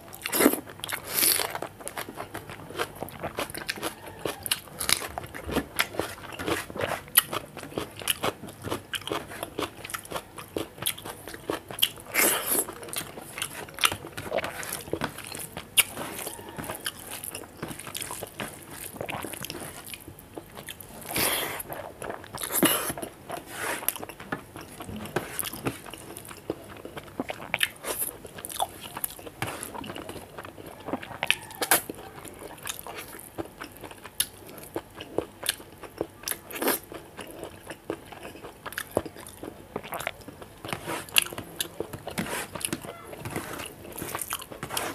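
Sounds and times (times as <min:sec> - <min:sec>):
person chewing and crunching: 0:00.0 - 0:44.9.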